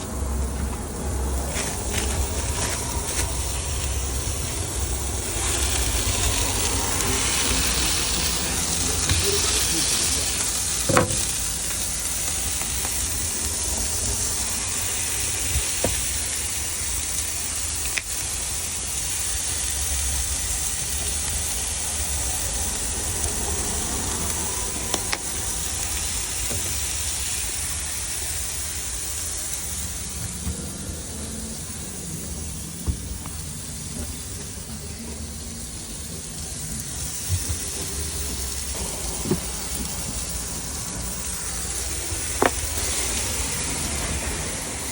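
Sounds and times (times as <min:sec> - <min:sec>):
food sizzling on griddle: 0:00.0 - 0:44.9.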